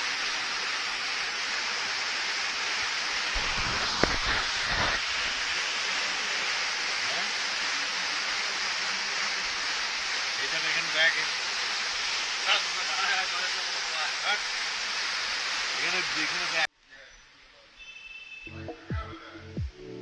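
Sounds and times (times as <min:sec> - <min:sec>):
rushing water hiss: 0:00.0 - 0:16.7.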